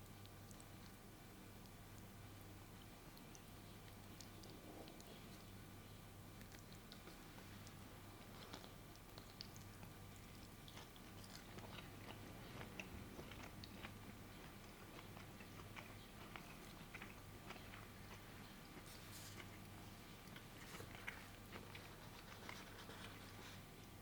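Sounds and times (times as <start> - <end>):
faint crunchy chewing: 0.0 - 24.0
low steady hum: 0.0 - 24.0.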